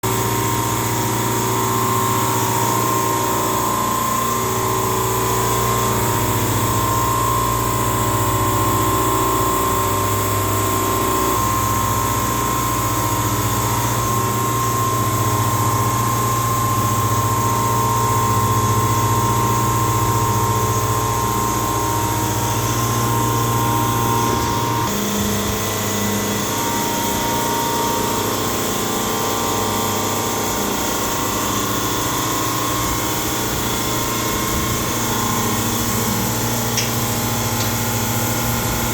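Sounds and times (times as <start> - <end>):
compressor whine: 0.0 - 38.9
refrigeration compressor humming: 0.0 - 38.9.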